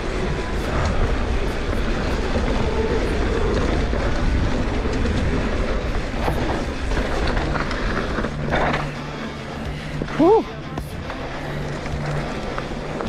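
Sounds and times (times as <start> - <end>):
bike clicks and rattles: 0.0 - 13.0
tyres and wind rumble: 0.0 - 13.0.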